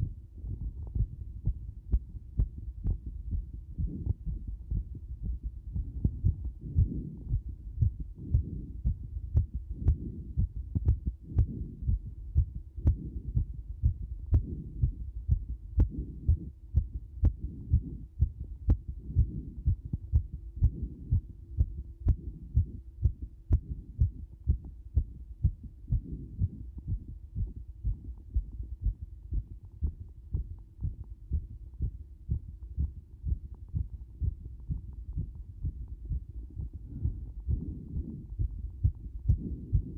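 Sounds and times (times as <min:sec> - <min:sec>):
faint steady hum: 0:00.0 - 0:39.9
heart beating fast: 0:00.0 - 0:39.9.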